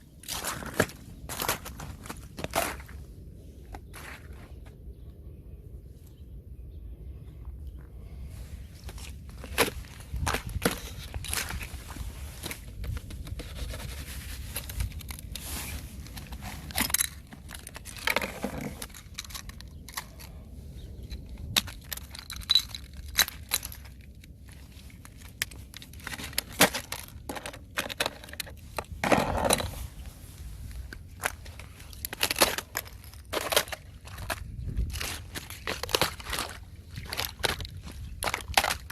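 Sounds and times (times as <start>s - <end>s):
ice crackling underfoot: 0.0s - 4.8s, 7.9s - 38.9s.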